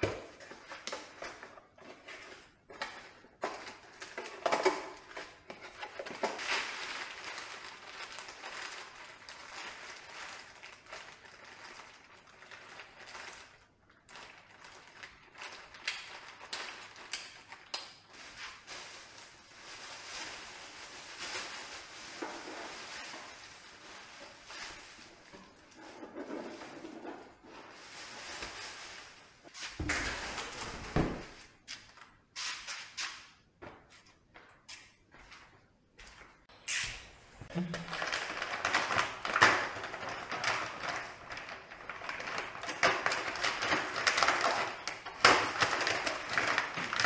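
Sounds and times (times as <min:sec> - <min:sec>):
packaging rustling and crinkling: 0:00.0 - 0:32.2, 0:37.6 - 0:47.0.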